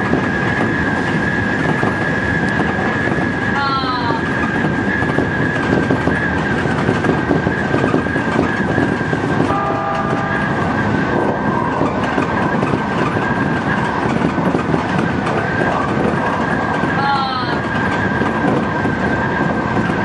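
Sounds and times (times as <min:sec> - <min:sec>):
high whine of train: 0:00.0 - 0:20.0
wheels rumbling on rail: 0:00.0 - 0:20.0.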